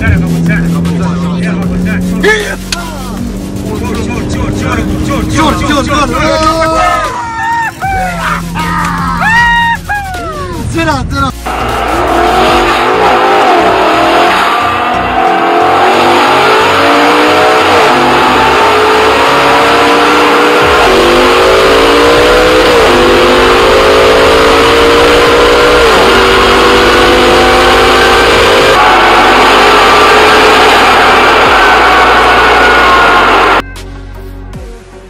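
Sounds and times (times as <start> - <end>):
race car engine accelerating: 0.0 - 7.2, 11.4 - 33.6.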